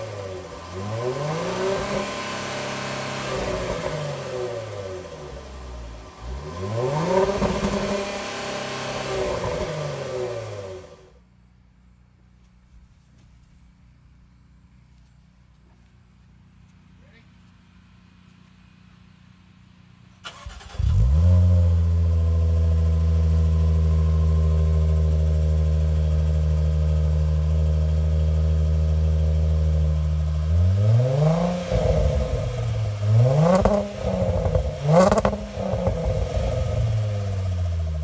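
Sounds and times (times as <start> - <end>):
car engine idling and revving: 0.0 - 11.4, 15.5 - 38.0.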